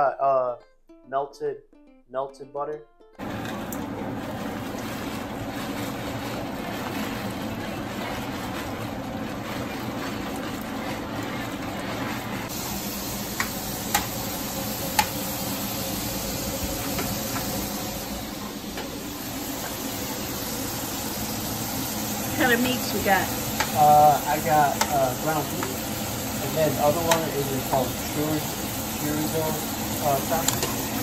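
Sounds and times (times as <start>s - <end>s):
water boiling and bubbling: 3.2s - 31.0s.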